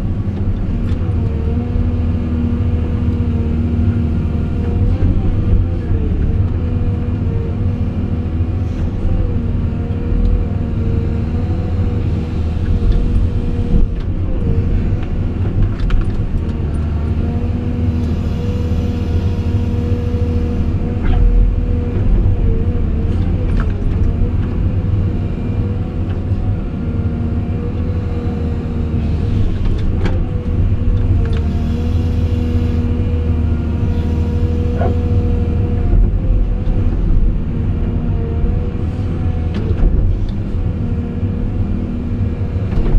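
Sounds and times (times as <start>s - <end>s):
excavator diesel engine rumbling: 0.0s - 42.9s.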